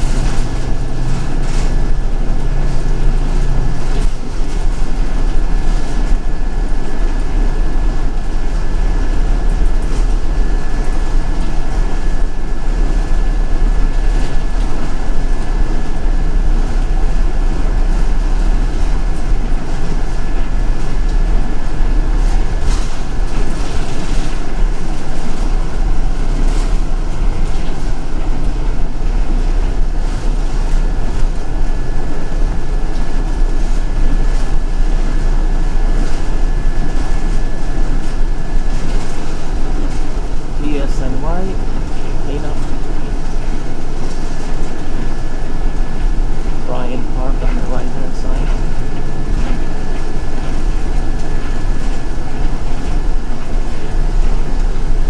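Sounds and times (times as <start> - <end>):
bus engine and road rumble: 0.0 - 55.0
high whine: 0.0 - 55.0.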